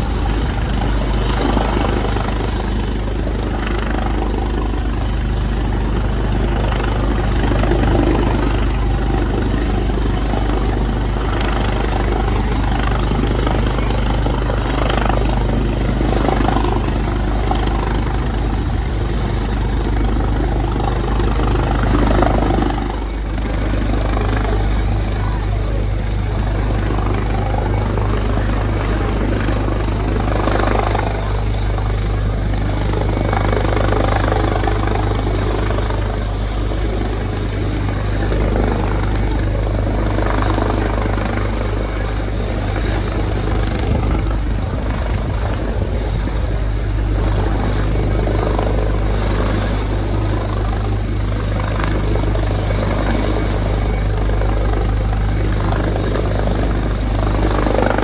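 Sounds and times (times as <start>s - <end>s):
broad rushing noise: 0.0s - 58.0s
helicopter rotor drone: 0.0s - 58.0s.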